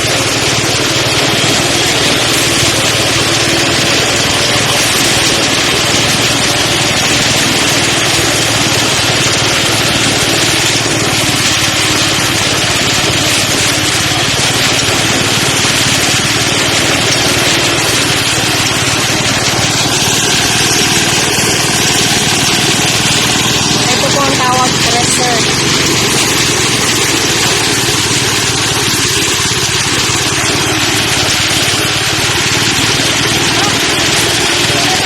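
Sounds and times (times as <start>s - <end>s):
threshing machine running: 0.0s - 35.0s.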